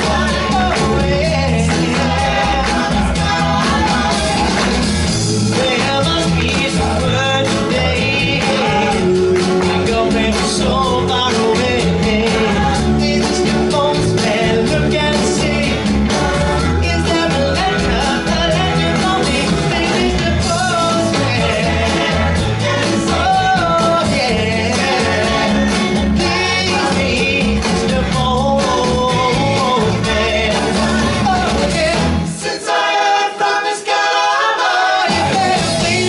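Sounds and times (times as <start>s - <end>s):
live pop band: 0.0s - 36.0s
male vocal group singing: 0.0s - 36.0s.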